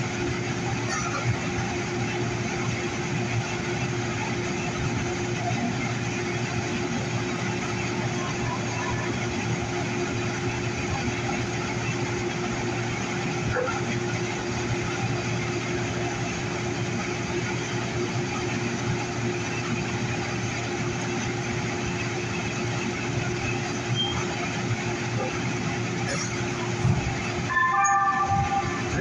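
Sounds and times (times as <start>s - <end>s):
constant low hum: 0.0s - 29.0s
light rail car running noise: 0.0s - 29.0s.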